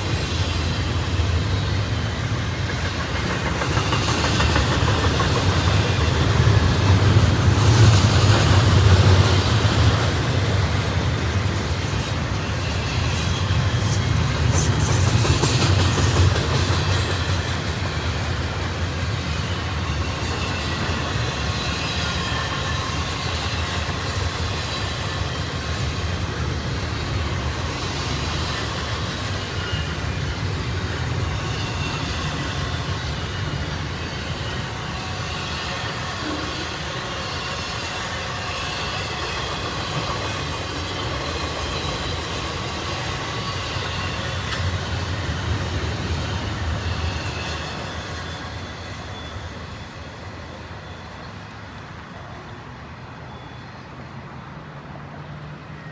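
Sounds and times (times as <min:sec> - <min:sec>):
faint high wheel squeal: 0:00.0 - 0:55.9
train wheels rumbling on rail: 0:00.0 - 0:55.9.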